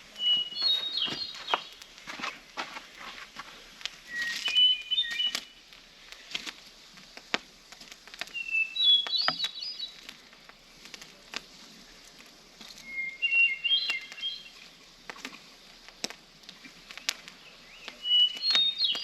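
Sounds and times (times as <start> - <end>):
songbird chirping: 0.0 - 6.5, 7.7 - 15.6, 16.4 - 19.0.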